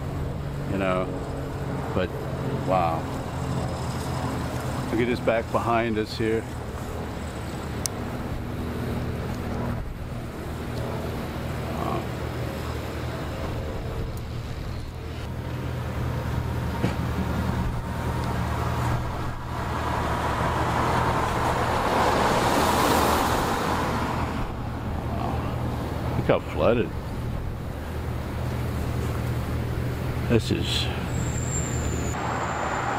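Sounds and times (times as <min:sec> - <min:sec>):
vehicle engine humming: 0:00.0 - 0:32.9.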